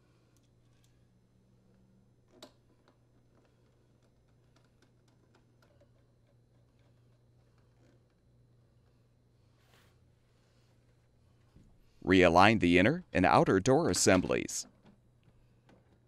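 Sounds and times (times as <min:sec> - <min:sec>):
low steady hum: 0:00.0 - 0:15.7.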